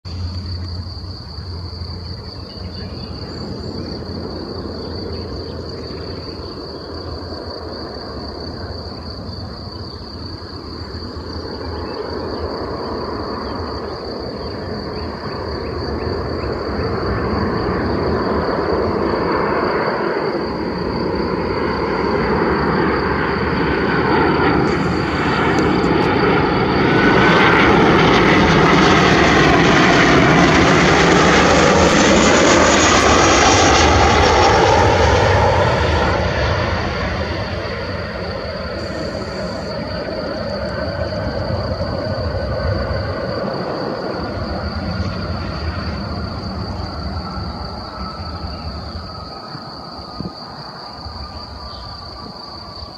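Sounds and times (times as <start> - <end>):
jet engines roaring: 0.0 - 52.9.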